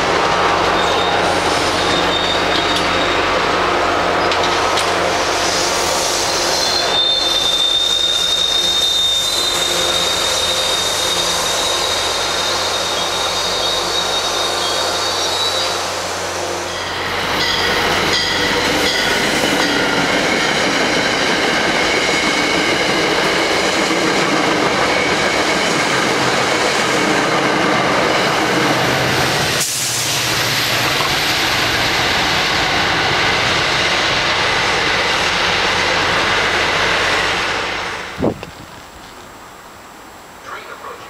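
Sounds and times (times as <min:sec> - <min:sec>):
train wheel and rail noise: 0:00.0 - 0:41.0.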